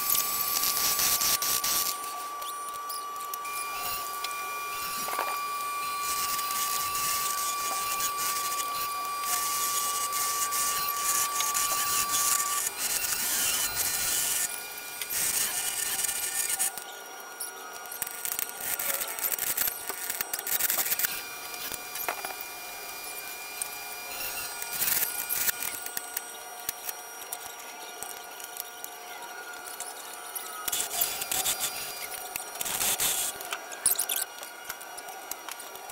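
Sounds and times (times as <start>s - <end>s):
thin high whine: 0.0s - 34.4s.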